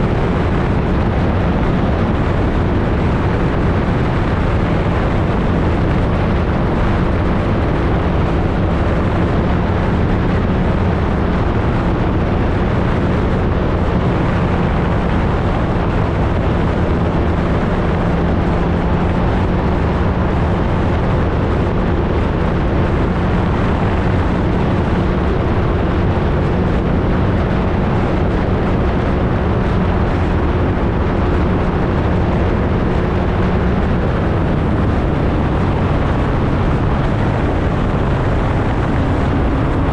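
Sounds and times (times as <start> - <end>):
aircraft engine and propeller: 0.0 - 39.9
heavy wind noise: 0.0 - 39.9.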